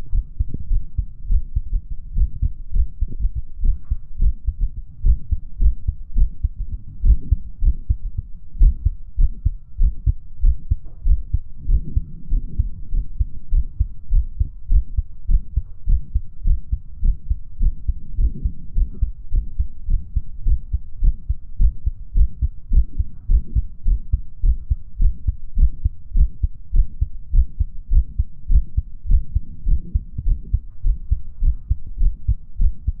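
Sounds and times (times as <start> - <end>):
faint heart murmur: 0.0 - 33.0
muffled heartbeat thumps: 0.0 - 33.0.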